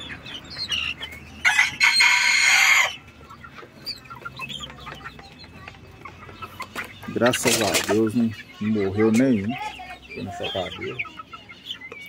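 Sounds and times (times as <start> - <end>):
chickens clucking and peeping: 0.0 - 12.0.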